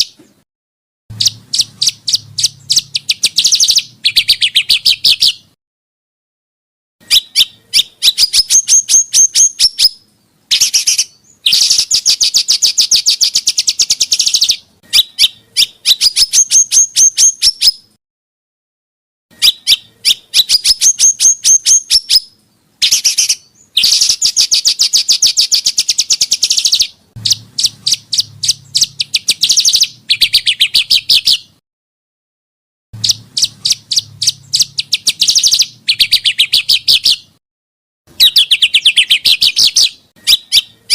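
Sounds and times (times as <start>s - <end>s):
rapid sharp bird chirps: 0.0s - 0.4s, 1.1s - 5.6s, 7.0s - 18.0s, 19.3s - 31.6s, 33.0s - 37.4s, 38.1s - 40.9s.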